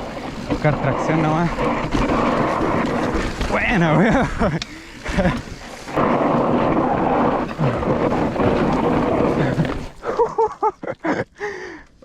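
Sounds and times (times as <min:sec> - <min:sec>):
bike tyres rumbling over dirt: 0:00.0 - 0:11.2.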